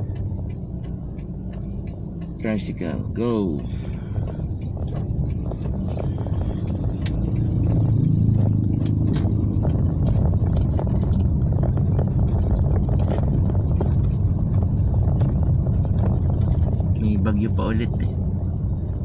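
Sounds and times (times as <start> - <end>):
raindrops ticking on car roof: 0.0 - 18.1
engine and road rumble: 0.0 - 19.0.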